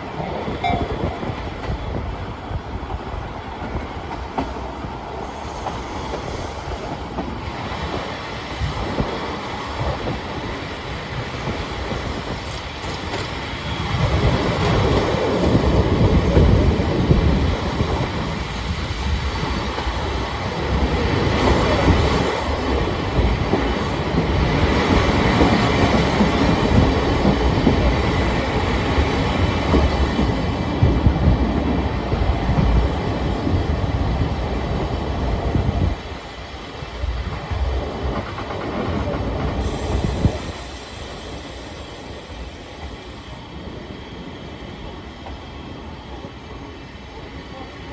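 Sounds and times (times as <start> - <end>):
rumble of train wheels on rail: 0.0 - 47.9.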